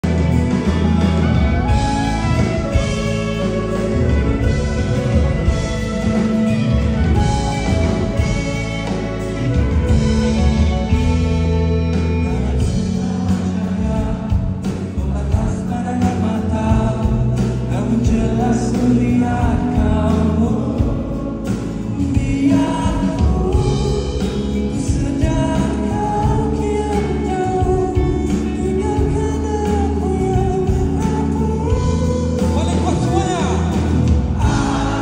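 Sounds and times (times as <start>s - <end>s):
live band with singing: 0.0s - 35.0s.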